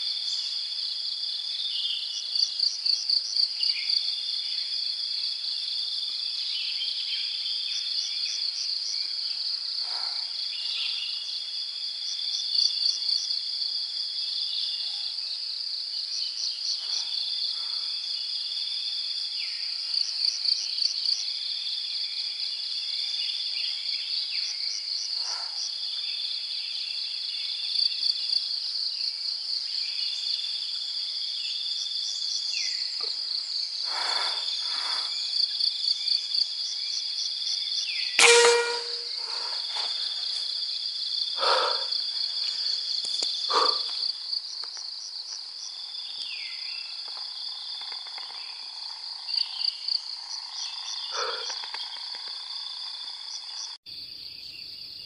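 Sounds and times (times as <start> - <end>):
insect trill: 0.0 - 55.0
insects droning: 0.0 - 55.0.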